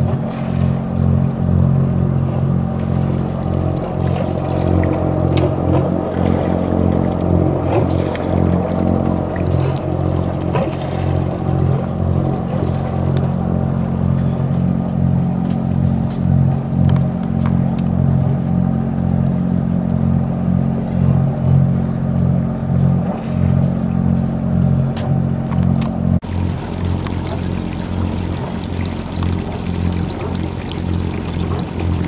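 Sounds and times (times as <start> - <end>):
boat engine droning: 0.0 - 24.1, 26.2 - 32.0.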